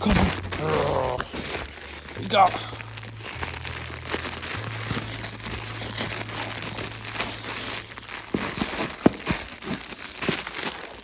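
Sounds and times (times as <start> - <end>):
dog toy crinkling: 0.0 - 11.0.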